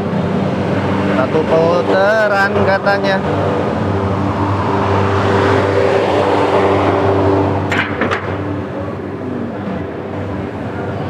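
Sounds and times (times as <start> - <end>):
electric scooter hum: 0.0 - 11.0
wind and road noise: 0.0 - 11.0.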